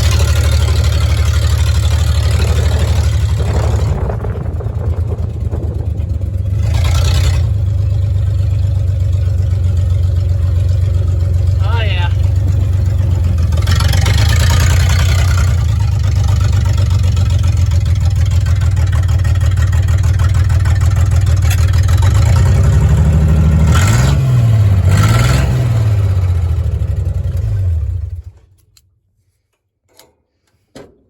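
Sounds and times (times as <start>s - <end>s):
engine stalling: 0.0s - 28.7s
truck engine idling and revving: 0.0s - 28.8s.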